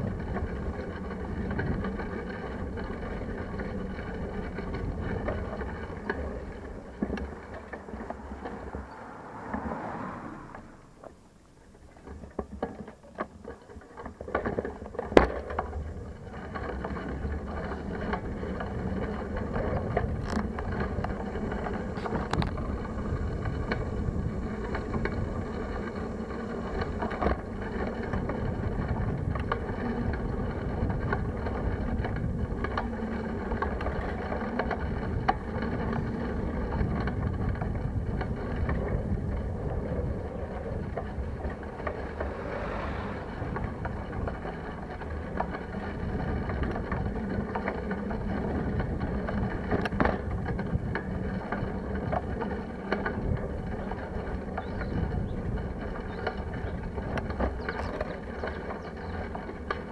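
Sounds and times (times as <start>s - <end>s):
wind buffeting microphone: 0.0s - 11.4s, 15.8s - 59.9s
tyre road rumble: 0.0s - 59.9s.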